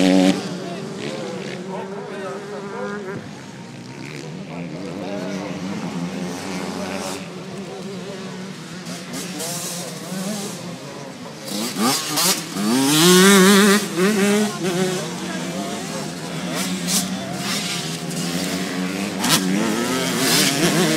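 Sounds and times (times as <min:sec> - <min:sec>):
motocross motorcycles revving: 0:00.0 - 0:20.9.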